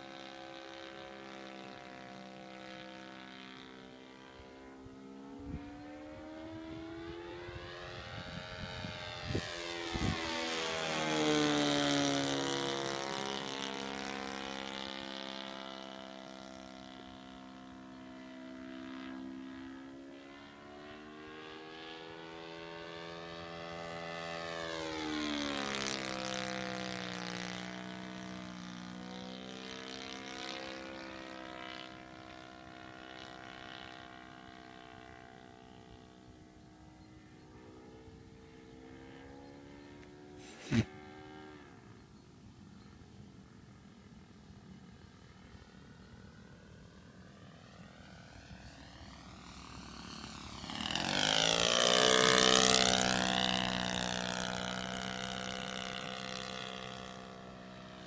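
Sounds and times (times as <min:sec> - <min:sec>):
model plane engine passing: 0:00.0 - 0:58.0.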